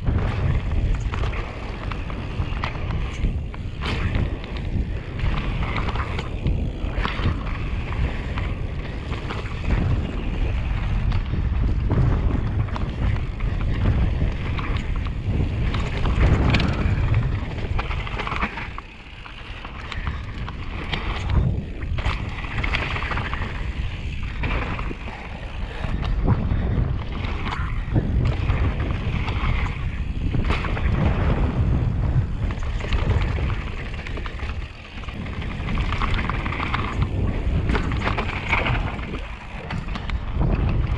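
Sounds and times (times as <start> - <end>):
bike rattling and knocking: 0.0 - 40.9
tyres on dirt and gravel: 0.0 - 40.9
wind buffeting microphone: 0.0 - 40.9.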